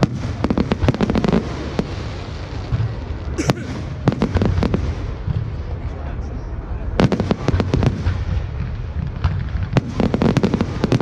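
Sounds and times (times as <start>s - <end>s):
fireworks bangs and crackles: 0.0s - 11.0s
low rumble of fireworks: 0.0s - 11.0s.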